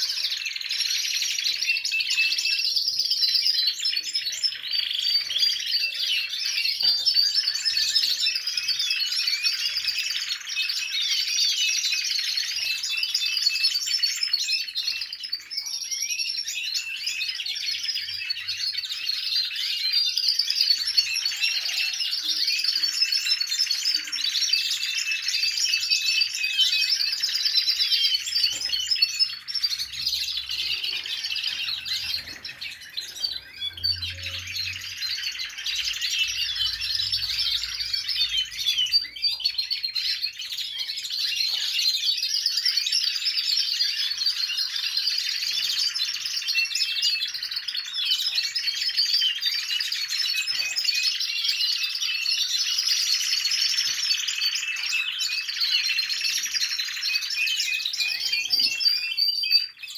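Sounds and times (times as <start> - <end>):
canaries trilling and chirping: 0.0 - 59.9.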